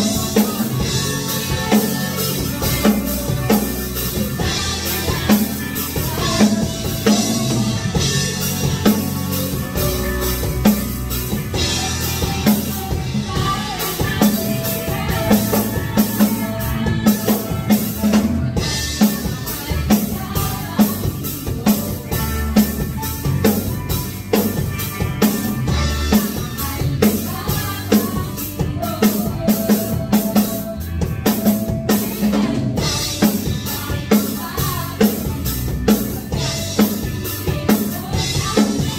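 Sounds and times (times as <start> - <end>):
women singing together: 0.0 - 8.7, 11.6 - 22.2, 25.8 - 30.8, 32.0 - 38.9
drum kit beat: 0.0 - 38.9
keyboard guitar and bass: 0.0 - 38.9.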